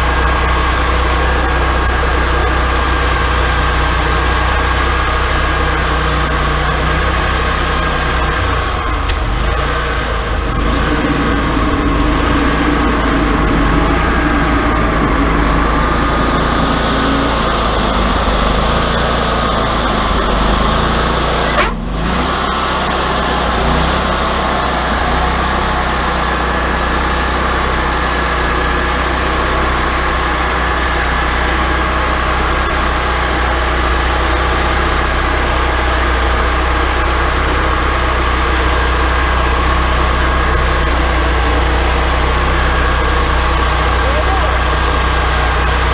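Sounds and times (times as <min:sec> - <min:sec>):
bandsaw sawmill running: 0:00.0 - 0:45.9.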